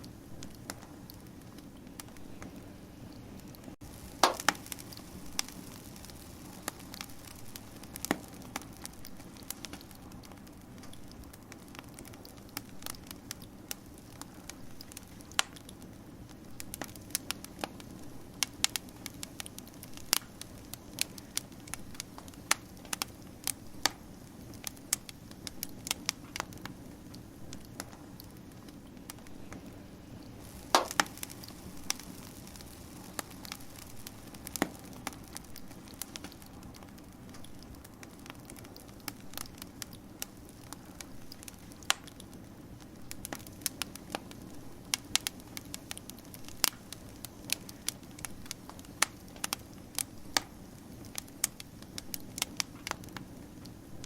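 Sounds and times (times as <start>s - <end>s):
low rush of flame: 0.0s - 54.0s
wood fire crackling and popping: 0.0s - 54.0s.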